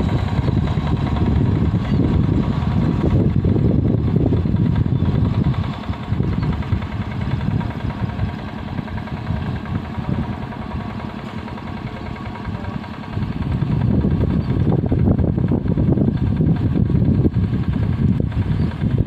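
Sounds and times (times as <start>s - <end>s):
small engine droning: 0.0s - 19.0s.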